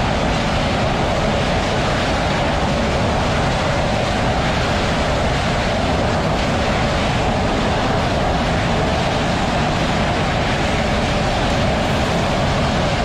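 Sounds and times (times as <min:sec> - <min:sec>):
jet engines loud rushing: 0:00.0 - 0:13.0.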